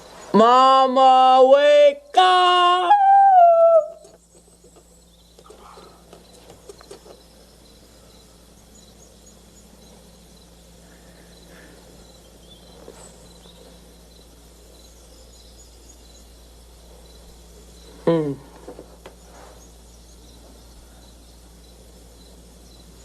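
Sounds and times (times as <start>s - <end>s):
crickets chirping: 0.0s - 23.0s
steady low hum: 0.0s - 23.0s.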